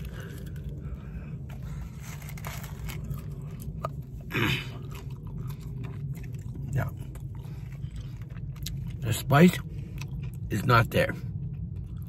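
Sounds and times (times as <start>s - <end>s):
car cabin hum: 0.0s - 12.0s
chewing crispy chicken: 0.0s - 12.0s.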